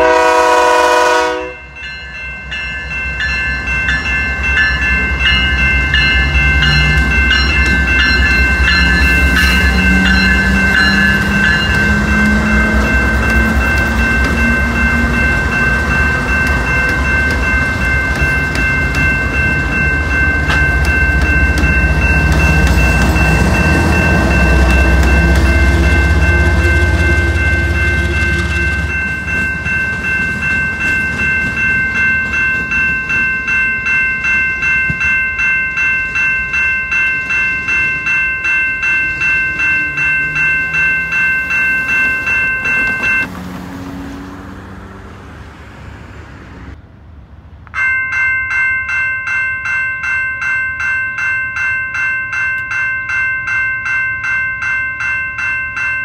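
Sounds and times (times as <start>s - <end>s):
crossing bell ringing: 0.0s - 46.8s, 47.7s - 56.0s
train rumbling past: 0.0s - 48.3s.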